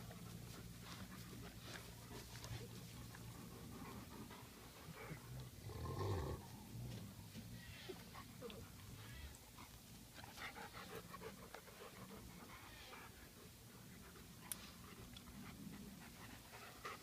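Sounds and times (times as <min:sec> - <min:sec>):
dogs breathing and shuffling: 0:00.0 - 0:17.0.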